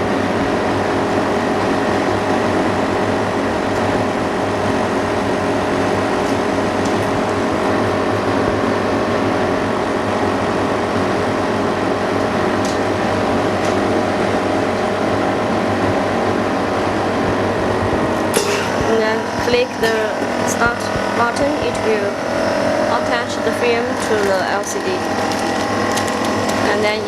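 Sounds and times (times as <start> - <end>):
whirring fan: 0.0 - 27.0
workshop machinery humming: 0.0 - 27.0.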